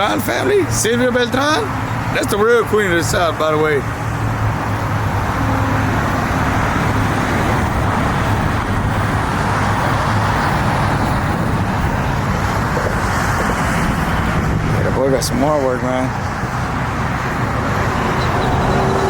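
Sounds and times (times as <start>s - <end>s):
outdoor noise: 0.0s - 19.0s
vehicle engine humming: 0.0s - 19.0s.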